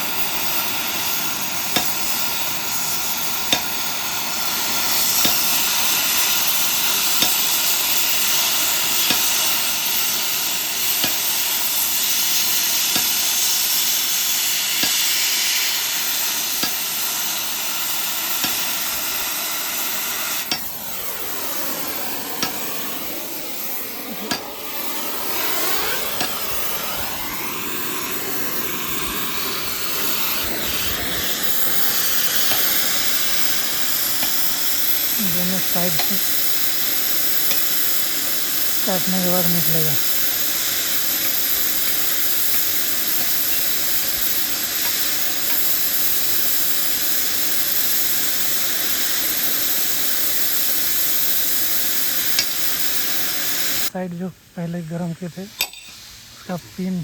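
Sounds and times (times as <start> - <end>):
cutting torch hissing: 0.0 - 57.0
sharp pops: 1.0 - 28.1, 28.9 - 38.9, 39.5 - 49.9, 52.0 - 53.0.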